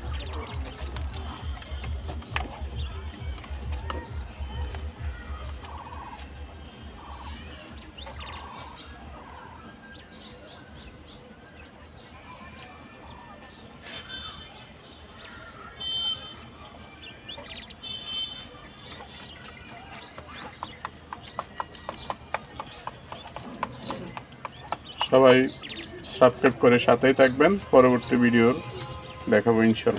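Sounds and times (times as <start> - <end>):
quails chirping: 0.0 - 11.9, 13.1 - 29.9.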